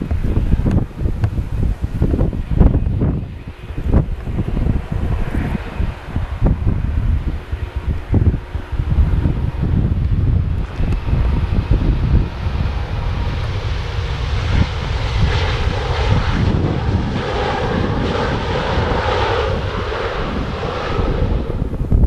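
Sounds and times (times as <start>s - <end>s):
airliner engines passing: 0.0s - 22.0s
wind rumble on microphone: 0.0s - 22.0s.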